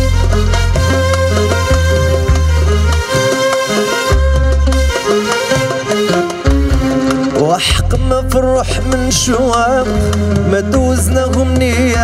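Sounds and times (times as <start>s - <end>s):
sustained low bass notes: 0.0s - 3.3s, 4.1s - 5.1s, 6.5s - 12.0s
electronic keyboard: 0.0s - 12.0s
oud: 0.0s - 12.0s
violin: 0.0s - 12.0s.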